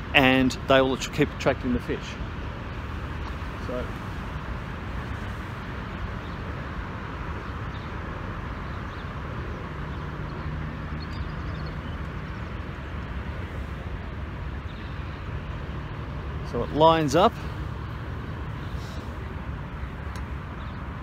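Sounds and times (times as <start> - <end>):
distant road traffic hum: 0.0 - 21.0
low engine drone: 0.0 - 21.0.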